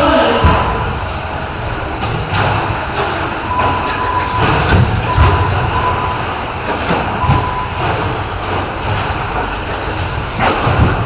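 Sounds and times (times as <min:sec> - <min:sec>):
rc trucks clattering rumble: 0:00.0 - 0:11.0
trucks landing with sharp knocks: 0:00.2 - 0:11.0.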